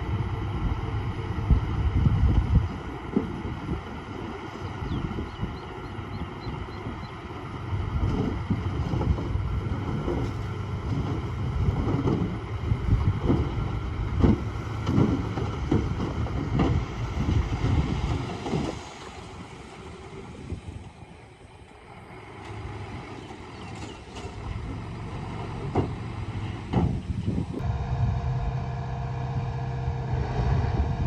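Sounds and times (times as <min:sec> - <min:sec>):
bulldozer diesel engine rumble: 0:00.0 - 0:31.0.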